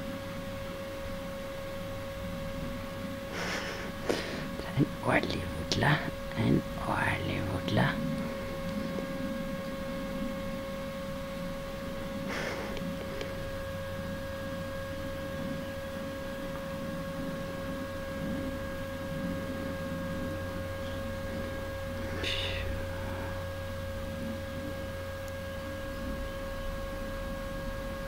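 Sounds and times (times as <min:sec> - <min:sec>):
steady hum with higher tones: 0:00.0 - 0:28.0.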